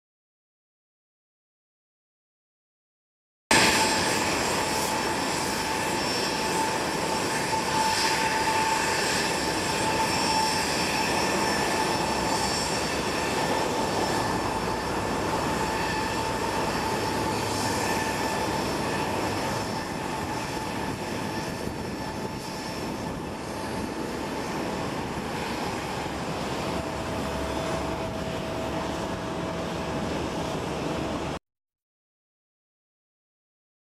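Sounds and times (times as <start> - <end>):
jet engines whining at taxi: 3.5 - 31.4.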